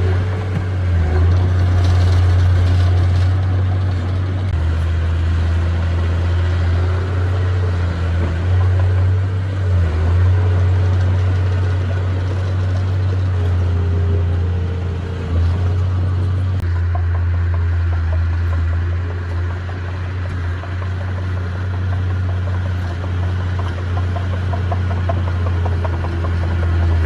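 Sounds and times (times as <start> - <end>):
heavy diesel engine droning: 0.0 - 27.0.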